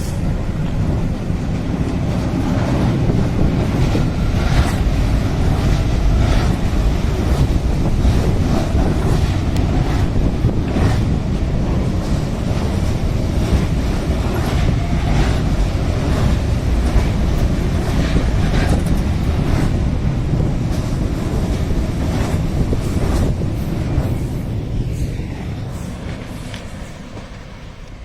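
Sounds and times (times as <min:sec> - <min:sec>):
train wheels clicking over rail joints: 0:00.0 - 0:24.5
heavy low train rumble: 0:00.0 - 0:28.0.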